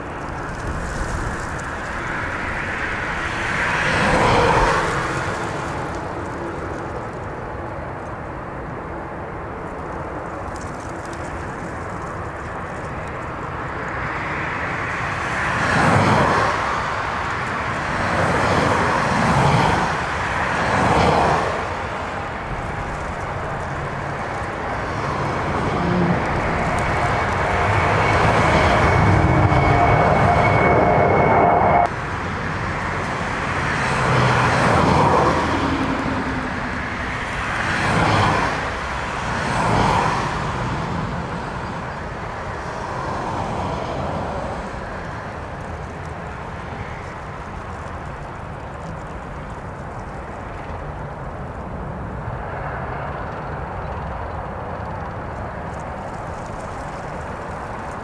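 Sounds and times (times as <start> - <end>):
wind noise on microphone: 0.0 - 8.2, 9.9 - 58.0
jet engines running: 0.0 - 58.0
jet passing overhead: 0.0 - 58.0.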